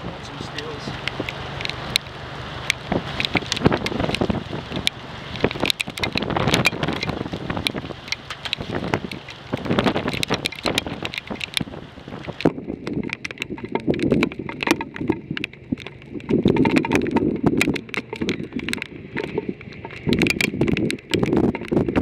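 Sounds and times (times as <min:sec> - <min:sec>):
hail and rain on car roof: 0:00.0 - 0:22.0
rushing wind: 0:00.0 - 0:22.0.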